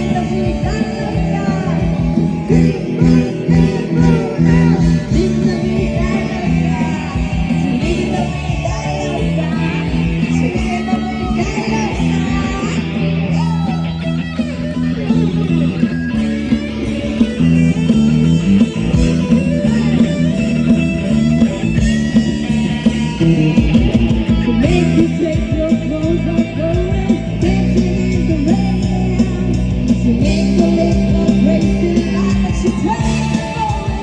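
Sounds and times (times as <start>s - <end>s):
bass guitar: 0.0s - 34.0s
electric guitar: 0.0s - 34.0s.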